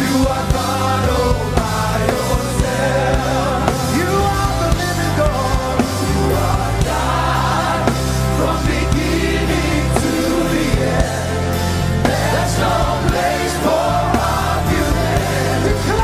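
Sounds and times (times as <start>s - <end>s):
gospel singing with live band: 0.0s - 16.0s.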